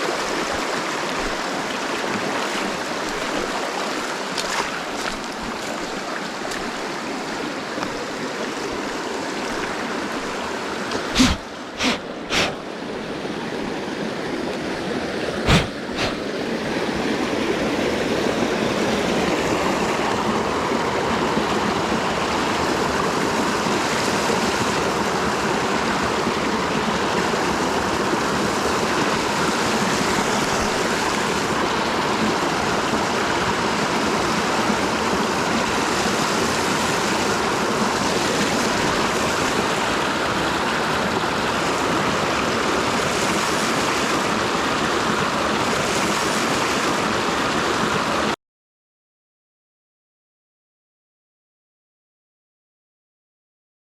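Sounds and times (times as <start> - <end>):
creek rushing over rocks: 0.0 - 48.4.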